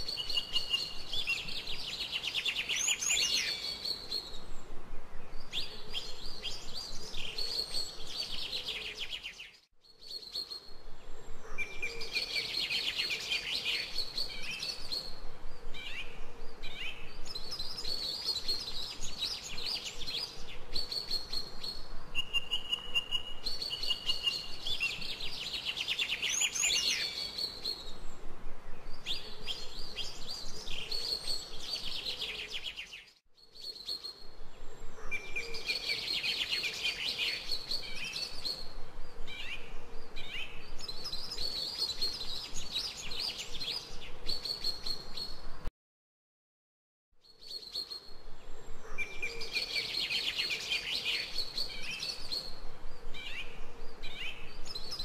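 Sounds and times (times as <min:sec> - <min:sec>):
songbirds chirping and trilling: 0:00.0 - 0:45.7, 0:47.2 - 0:55.0.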